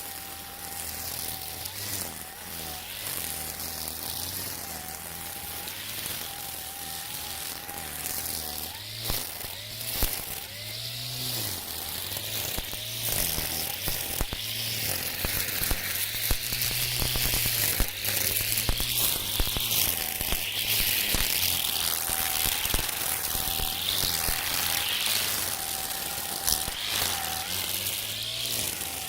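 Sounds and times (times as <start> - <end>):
brush cutter cutting weeds: 0.0 - 29.0
motor whine: 0.0 - 29.0.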